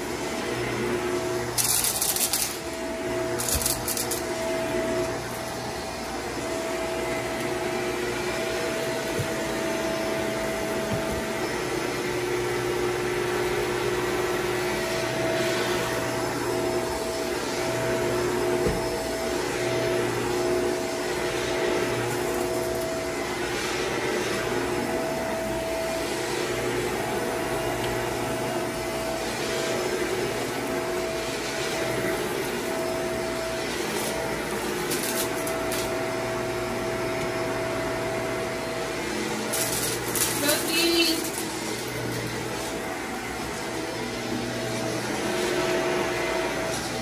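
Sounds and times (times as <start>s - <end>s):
vacuum cleaner running on carpet: 0.0s - 47.0s.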